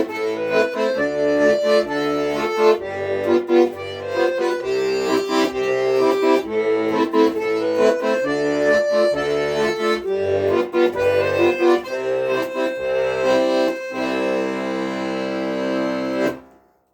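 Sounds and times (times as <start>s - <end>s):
accordion melody: 0.0s - 16.6s.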